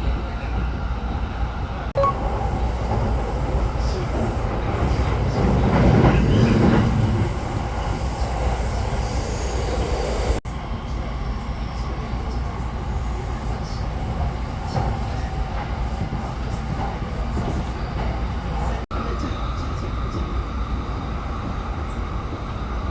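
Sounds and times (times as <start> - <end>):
train running rumble: 0.1 - 22.6.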